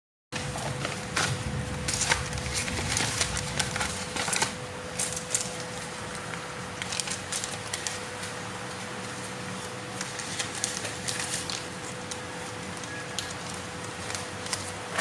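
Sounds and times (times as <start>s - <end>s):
steady hum: 0.4s - 15.0s.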